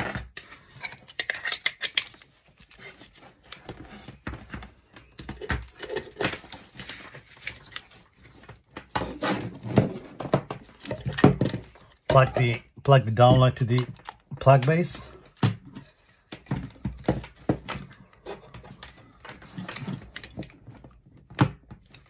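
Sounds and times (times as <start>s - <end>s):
cables rustling on a desk: 0.0s - 12.6s, 13.2s - 22.0s.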